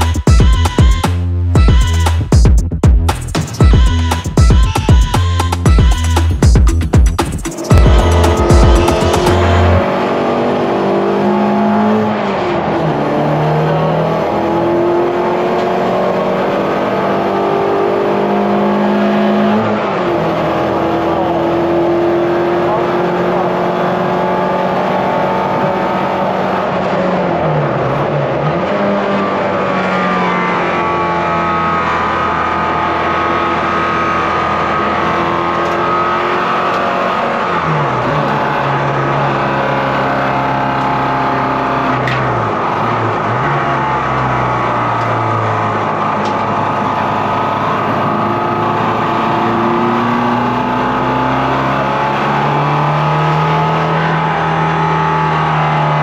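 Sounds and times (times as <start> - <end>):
race car engine revving: 6.0 - 56.0.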